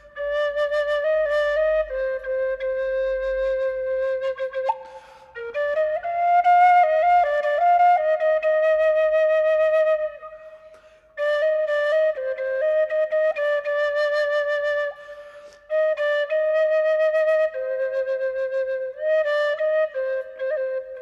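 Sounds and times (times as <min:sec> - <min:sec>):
solo flute folk melody: 0:00.0 - 0:21.0.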